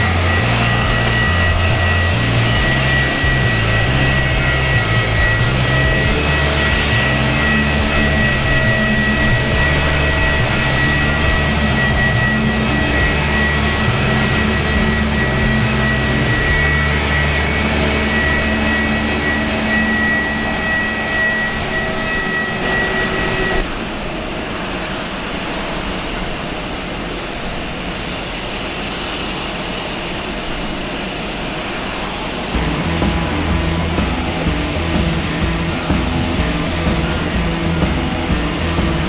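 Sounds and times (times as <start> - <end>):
jet engines whining and roaring: 0.0 - 39.0.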